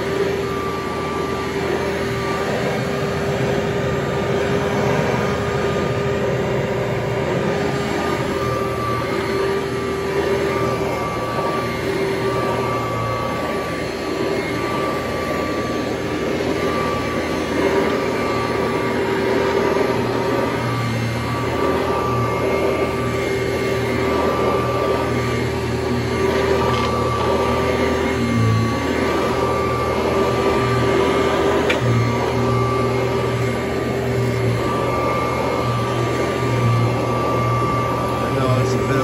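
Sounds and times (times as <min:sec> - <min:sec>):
upright vacuum cleaner running: 0:00.0 - 0:39.0.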